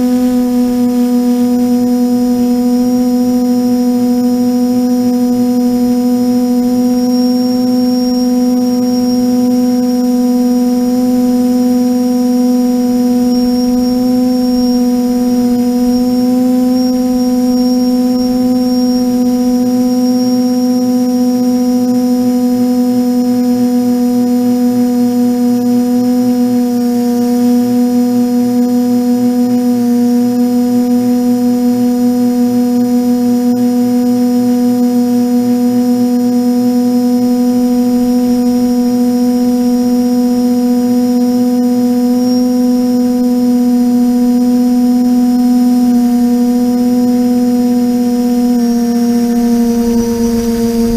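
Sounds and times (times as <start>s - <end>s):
drone motors humming: 0.0s - 50.9s
faint high whine: 0.0s - 50.9s.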